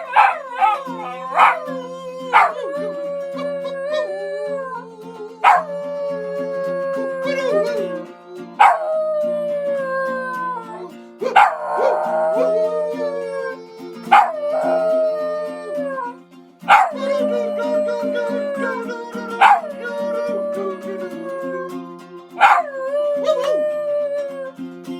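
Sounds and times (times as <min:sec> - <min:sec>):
dog howling: 0:00.0 - 0:24.6
held musical notes: 0:00.0 - 0:24.9.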